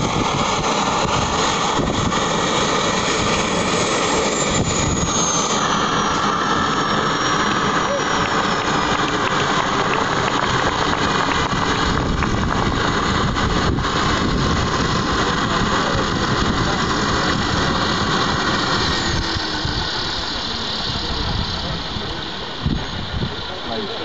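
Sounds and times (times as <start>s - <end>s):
model helicopter engine running: 0.0s - 24.0s.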